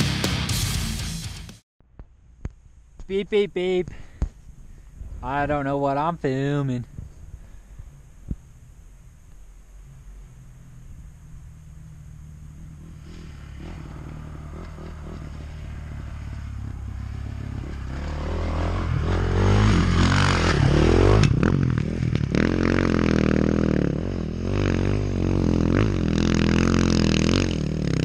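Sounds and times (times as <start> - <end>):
dirt bike engine revving: 5.0 - 28.0.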